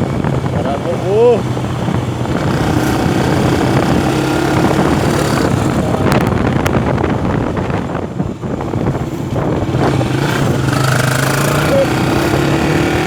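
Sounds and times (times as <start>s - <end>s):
vehicle engine running: 0.0s - 13.0s
wind noise on microphone: 0.0s - 13.0s.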